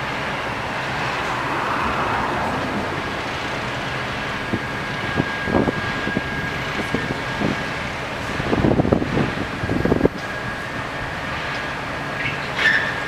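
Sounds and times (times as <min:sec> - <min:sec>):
heavy machinery engine running: 0:00.0 - 0:13.0
wind on microphone: 0:00.7 - 0:11.3.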